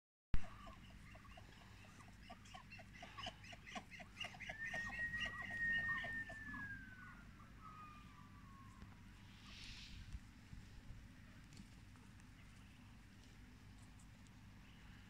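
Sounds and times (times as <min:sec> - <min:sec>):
ducks chirping softly: 0:00.4 - 0:15.0.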